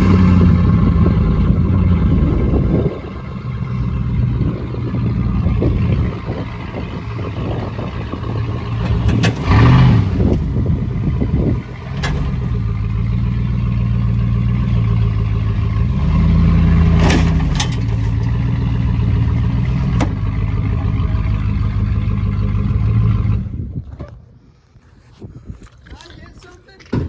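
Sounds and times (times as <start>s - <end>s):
vehicle engine revving: 0.0s - 23.7s.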